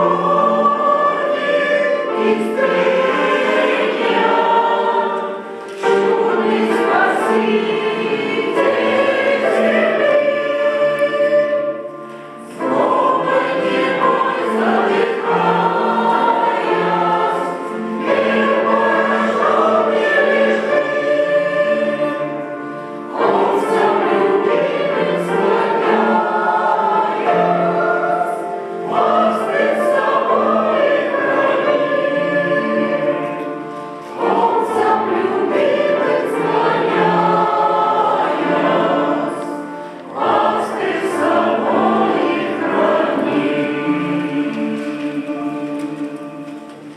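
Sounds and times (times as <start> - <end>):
choir singing a hymn: 0.0 - 46.9.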